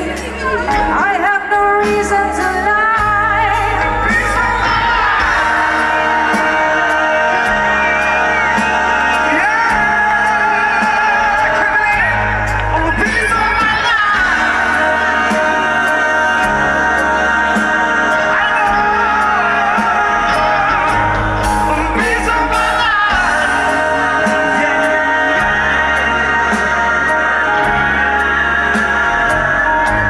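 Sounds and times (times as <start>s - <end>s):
live band playing: 0.0s - 30.0s
person singing: 0.0s - 30.0s
steady bass line: 0.0s - 30.0s.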